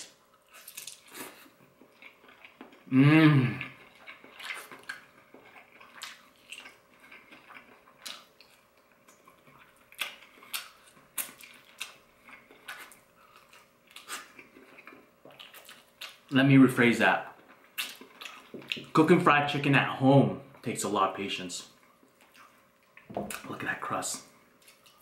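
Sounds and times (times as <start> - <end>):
person chewing crispy food: 0.0 - 16.4, 17.3 - 18.9, 21.8 - 23.7, 24.5 - 25.0.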